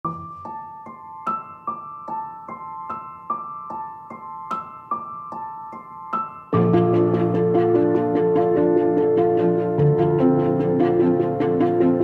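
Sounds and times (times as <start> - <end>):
piano-like keyboard repeating notes: 0.0 - 12.0.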